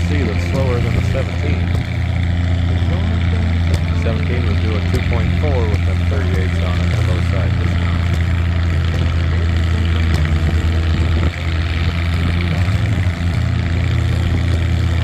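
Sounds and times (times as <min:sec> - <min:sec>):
tractor engine under heavy load: 0:00.0 - 0:15.0.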